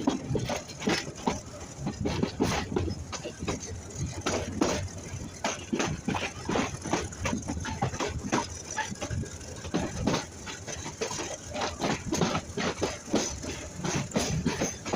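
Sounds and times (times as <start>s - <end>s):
train wheels knocking and rattling: 0.0s - 14.9s.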